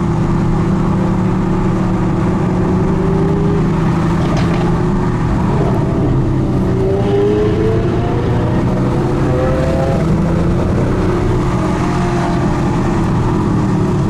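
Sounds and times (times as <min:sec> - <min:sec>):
car engines accelerating: 0:00.0 - 0:14.0
road noise: 0:00.0 - 0:14.0.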